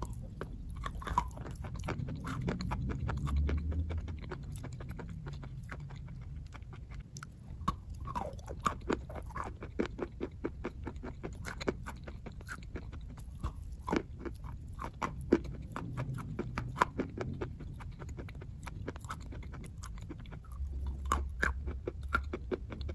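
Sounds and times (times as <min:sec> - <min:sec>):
person chewing chalk crunching: 0:00.0 - 0:22.9.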